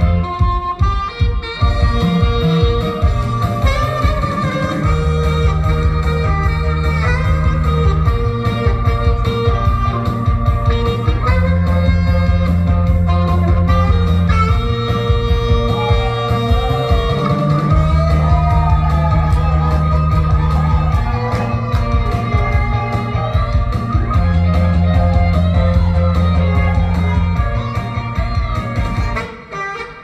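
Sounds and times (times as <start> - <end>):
pop-rock backing track: 0.0 - 29.9
saxophone playing pop song: 0.0 - 30.0.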